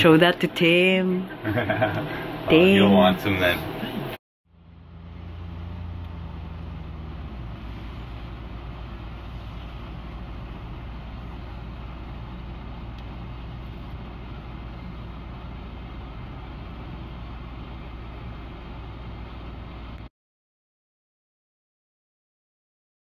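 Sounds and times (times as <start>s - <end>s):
car engine drone: 0.0s - 20.1s
tyre and road noise: 1.3s - 20.1s.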